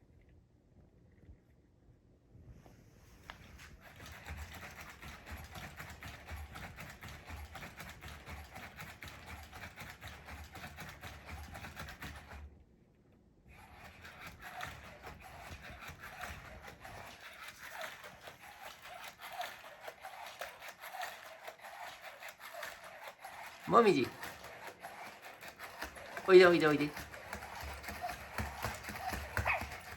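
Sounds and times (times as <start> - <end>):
robot dog clicks and scrapes: 3.3 - 12.5, 13.5 - 29.9.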